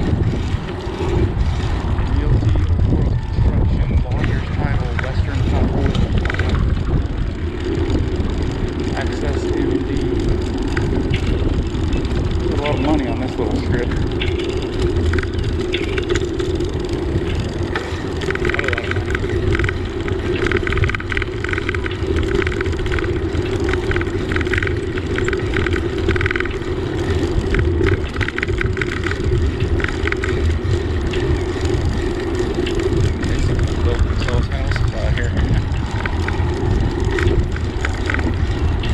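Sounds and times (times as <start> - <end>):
bicycle running noise: 0.0 - 38.9
rapid ticking: 0.0 - 38.9
wind buffeting microphone: 0.0 - 38.9.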